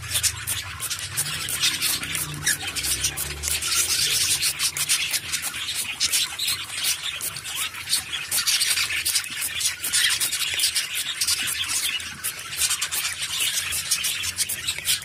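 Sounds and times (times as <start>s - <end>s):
wet feathers rustling and fluttering: 0.0s - 15.0s.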